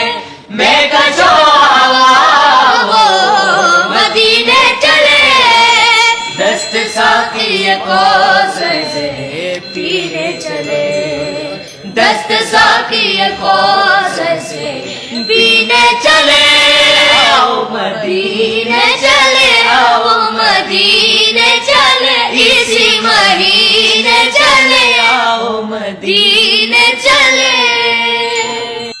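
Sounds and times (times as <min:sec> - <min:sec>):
person singing devotional melody: 0:00.0 - 0:29.0.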